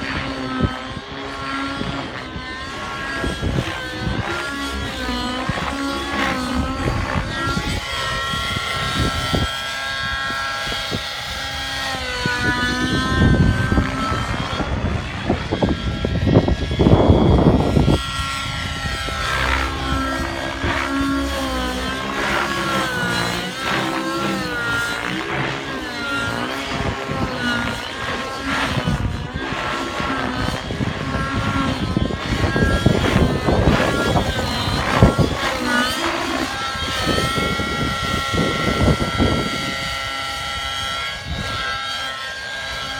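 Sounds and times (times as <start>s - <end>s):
model helicopter engine and rotor: 0.0s - 42.9s.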